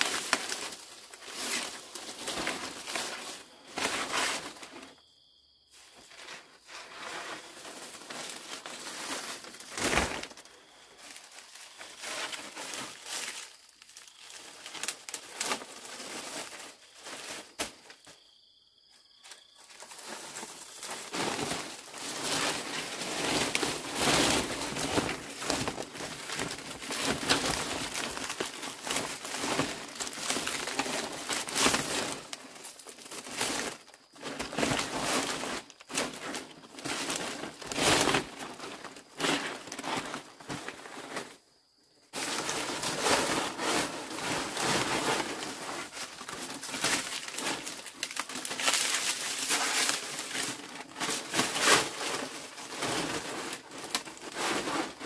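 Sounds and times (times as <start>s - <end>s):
dry crinkling and rustling: 0.0s - 5.1s, 5.7s - 18.2s, 19.0s - 41.4s, 42.1s - 55.0s.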